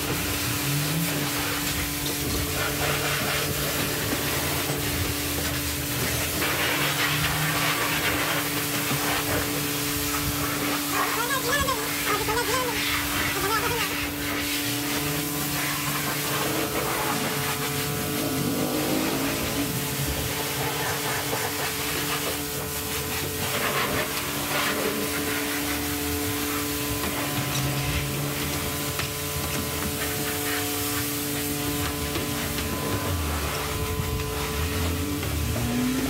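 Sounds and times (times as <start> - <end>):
motor humming with hiss: 0.0 - 36.0.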